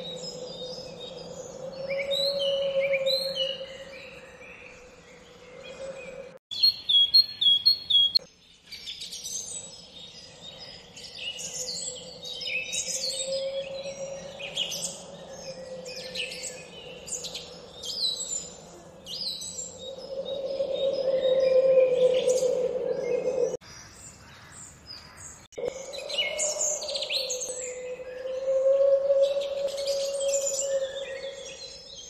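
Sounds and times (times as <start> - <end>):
songbirds chirping and singing: 0.0 - 32.0.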